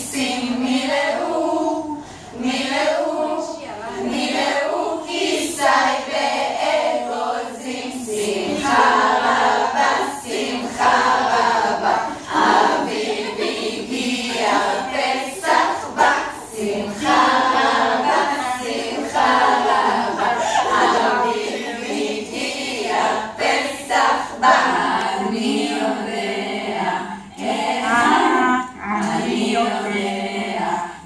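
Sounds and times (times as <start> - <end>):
women singing in chorus: 0.0 - 31.0.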